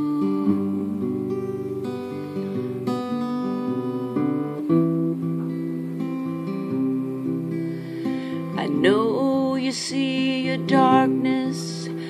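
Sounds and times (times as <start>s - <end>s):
guitar strummed: 0.0s - 12.0s.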